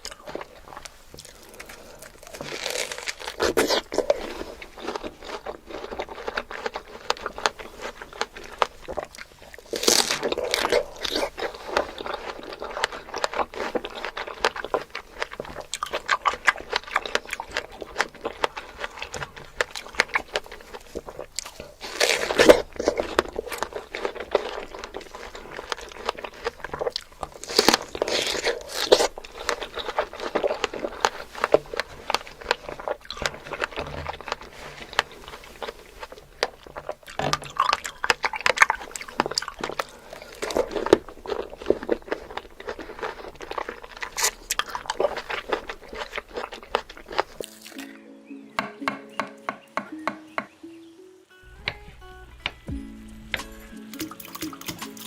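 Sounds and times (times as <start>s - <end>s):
crunchy fruit bites: 0.0s - 48.0s
wet chewing: 0.0s - 48.0s, 52.4s - 55.0s.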